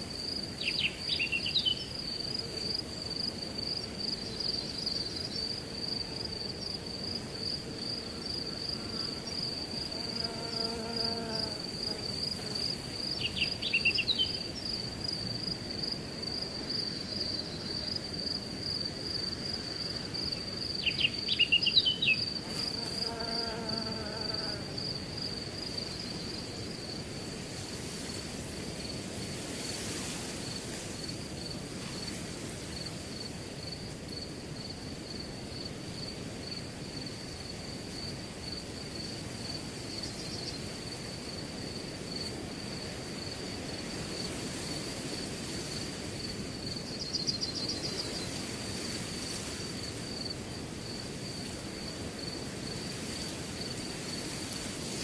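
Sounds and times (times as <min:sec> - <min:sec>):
crickets chirping: 0:00.0 - 0:55.0
wind in grass: 0:00.0 - 0:55.0.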